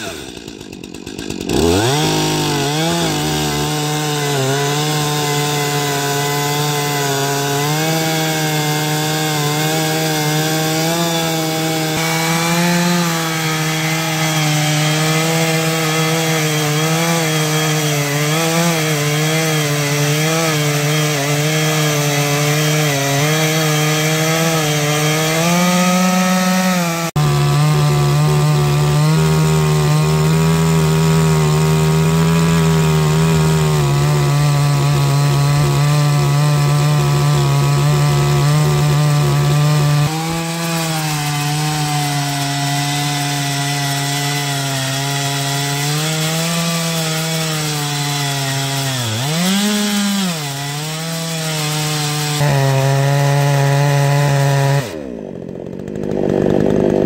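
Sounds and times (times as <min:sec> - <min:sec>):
chainsaw cutting through timber: 0:00.0 - 0:57.0
second chainsaw at full throttle: 0:00.0 - 0:57.0.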